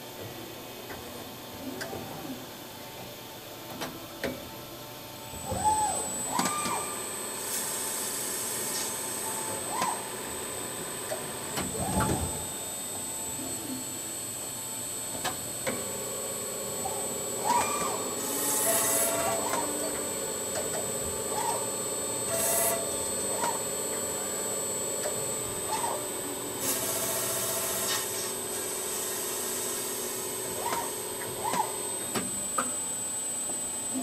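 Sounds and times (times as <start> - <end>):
milling machine whine and hum: 0.0 - 34.0
low machine tone: 3.0 - 34.0.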